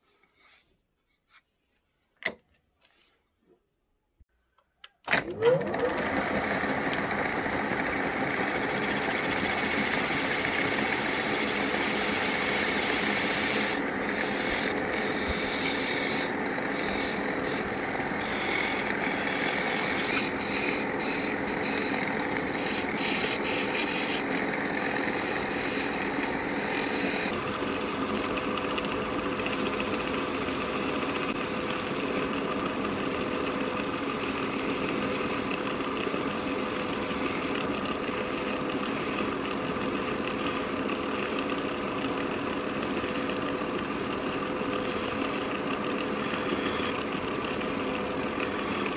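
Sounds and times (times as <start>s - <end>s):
wood lathe humming: 5.1s - 48.9s
turning tool shaving hiss: 5.9s - 48.9s.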